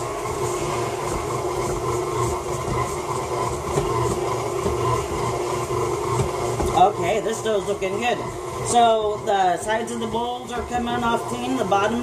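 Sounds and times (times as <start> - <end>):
stand mixer kneading dough: 0.0 - 12.0.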